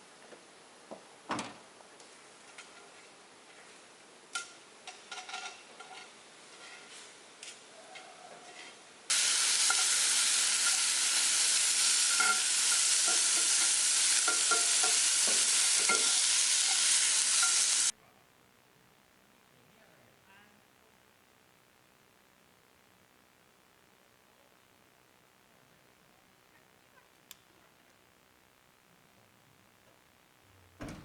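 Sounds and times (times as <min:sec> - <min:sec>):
sizzling hiss with pops: 0:01.8 - 0:07.6, 0:09.1 - 0:31.0.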